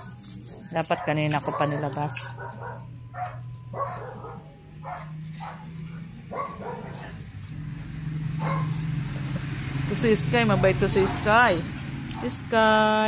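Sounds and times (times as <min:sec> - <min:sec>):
dogs yipping and barking: 0:00.0 - 0:12.5.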